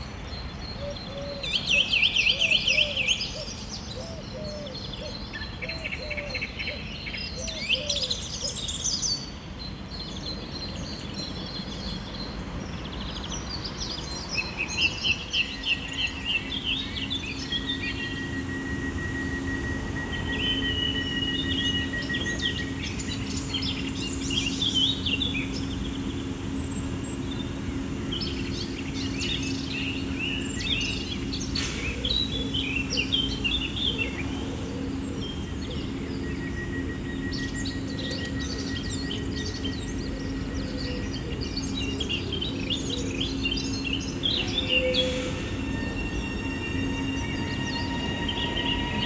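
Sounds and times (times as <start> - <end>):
birds chirping and singing: 0.0 - 49.0
steady low hum: 0.0 - 49.0.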